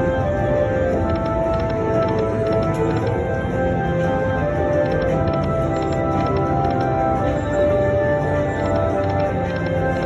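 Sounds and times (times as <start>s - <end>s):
slot machine game music: 0.0s - 10.0s.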